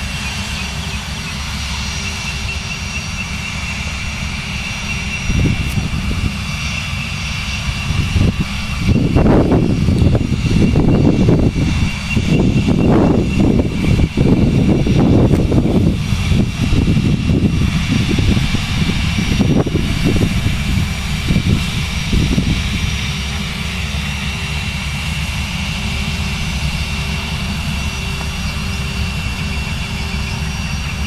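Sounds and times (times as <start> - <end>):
jet engines idling: 0.0 - 31.0.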